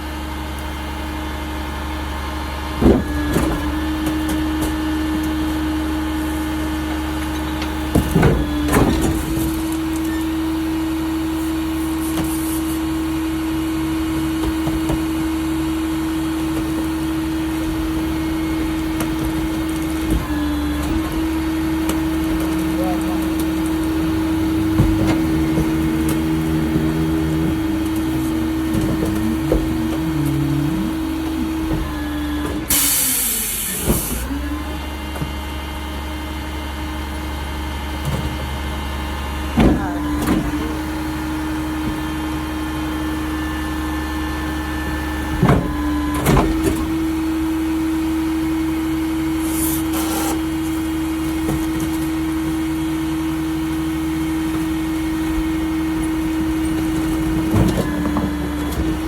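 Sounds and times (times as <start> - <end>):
garbage truck engine running: 0.0 - 59.0.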